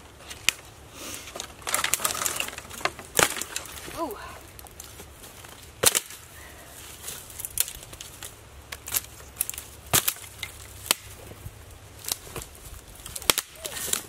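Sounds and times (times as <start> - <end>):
dry sticks snapping: 1.3 - 6.3, 6.9 - 14.0.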